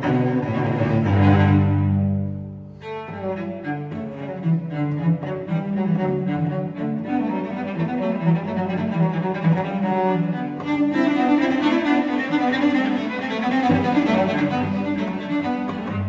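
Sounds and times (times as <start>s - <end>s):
cellos playing: 0.0s - 16.0s.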